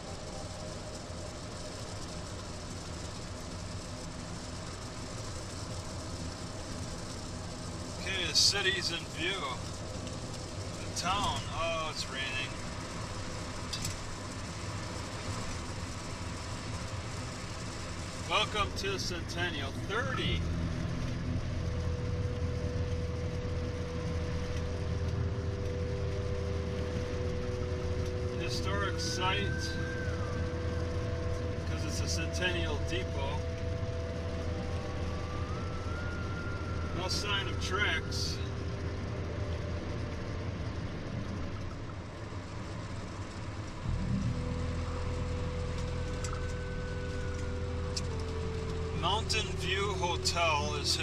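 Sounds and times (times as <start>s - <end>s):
car engine rumble: 0.0s - 51.0s
faint steady whine: 0.0s - 51.0s
lower whine: 0.0s - 51.0s
road noise: 0.0s - 51.0s.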